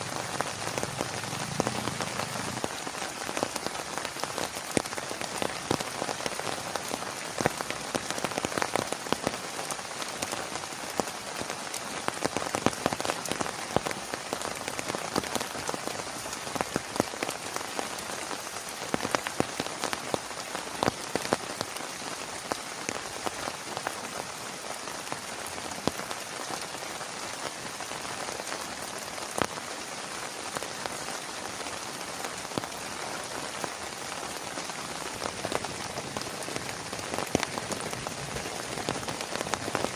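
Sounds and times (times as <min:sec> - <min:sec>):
heavy rain: 0:00.0 - 0:39.9
raindrops ticking on surface: 0:00.0 - 0:39.9.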